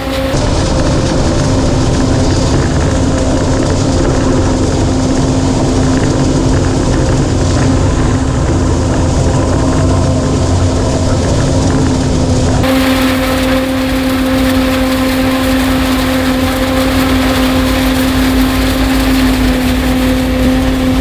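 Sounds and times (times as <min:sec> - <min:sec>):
constant humming tone: 0:00.0 - 0:21.0
heavy diesel machinery running: 0:00.0 - 0:21.0.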